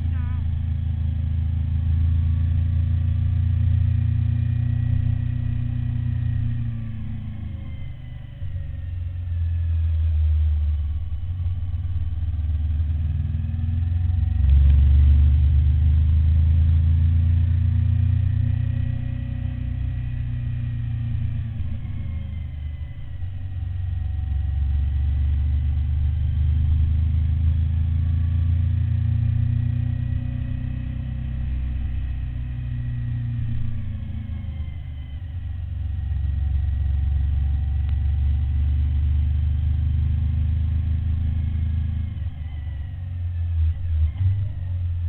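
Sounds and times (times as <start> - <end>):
motorcycle engine: 0.0 - 45.0.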